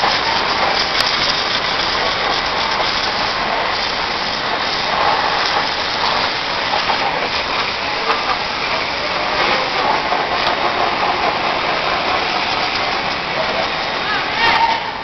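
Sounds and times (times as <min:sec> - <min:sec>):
pressure washer spraying metal: 0:00.0 - 0:14.1.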